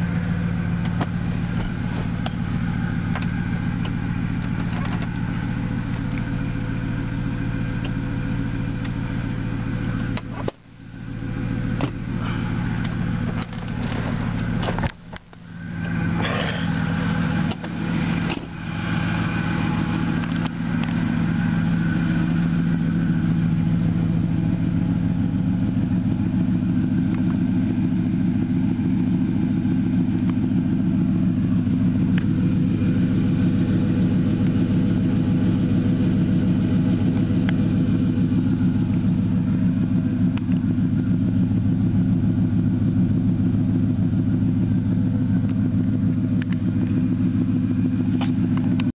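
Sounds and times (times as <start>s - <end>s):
pickup engine idling: 0.0s - 48.9s.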